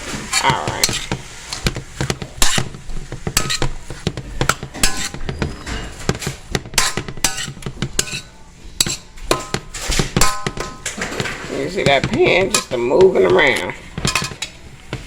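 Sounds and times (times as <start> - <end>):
utensil scraping metal pot: 0.0 - 14.6.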